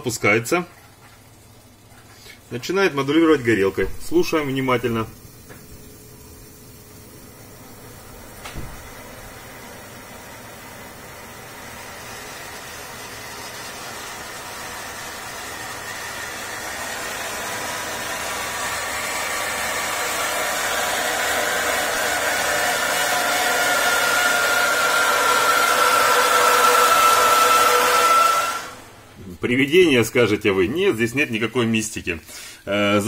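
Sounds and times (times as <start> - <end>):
boiler hissing rush: 2.2 - 33.0.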